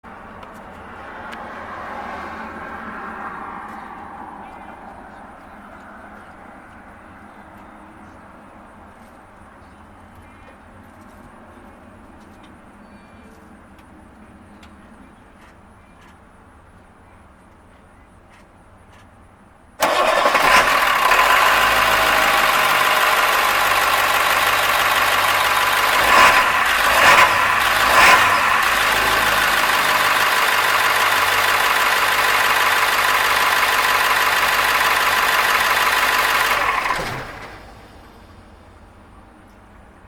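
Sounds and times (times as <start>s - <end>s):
diesel bus engine running: 0.0s - 12.7s, 19.7s - 40.0s.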